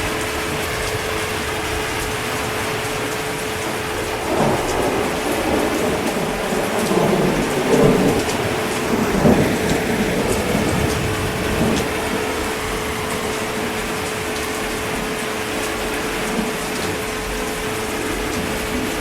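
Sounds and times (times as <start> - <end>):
heavy rain downpour: 0.0 - 19.0
rumbling thunder: 0.0 - 19.0.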